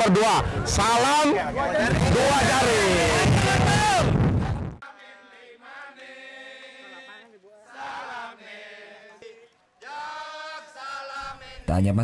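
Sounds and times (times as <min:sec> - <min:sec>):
crowd singing and chanting: 0:00.0 - 0:11.7.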